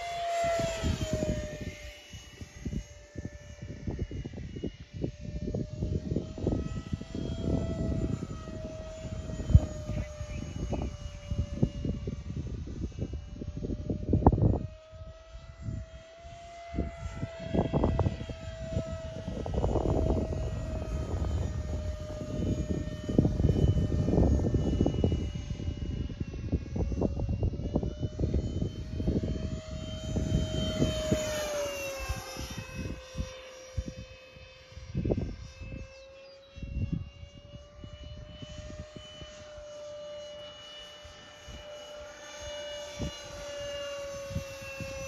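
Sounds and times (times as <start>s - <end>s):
model jet fan whine: 0.0s - 45.0s
wind buffeting microphone: 0.0s - 45.0s.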